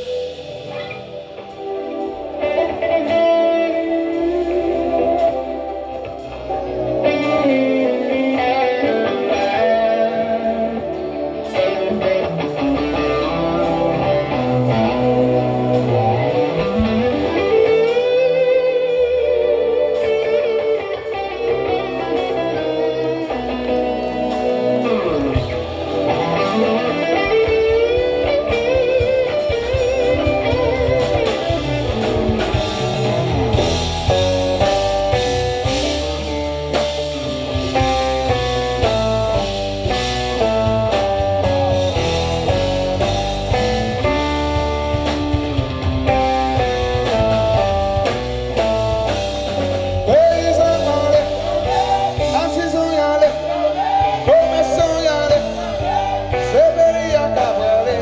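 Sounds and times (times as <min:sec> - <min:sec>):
bass line: 0:00.0 - 0:58.0
electric guitar lead line: 0:00.0 - 0:58.0.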